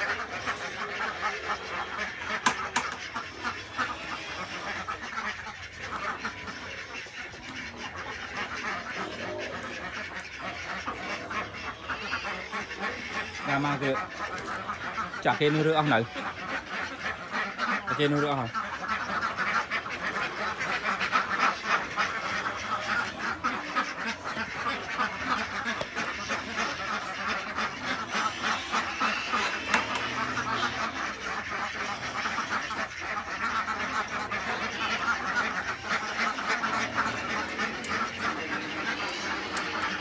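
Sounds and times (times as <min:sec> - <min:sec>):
ducks quacking: 0:00.0 - 0:40.0.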